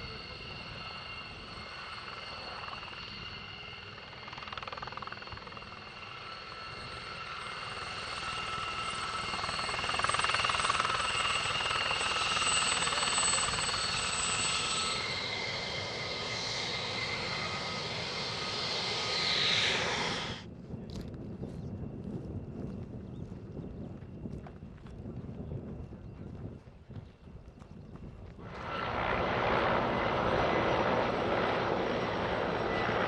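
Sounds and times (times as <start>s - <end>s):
helicopter engine whine: 0.0s - 26.5s, 27.8s - 33.0s
helicopter rotor noise: 0.0s - 33.0s.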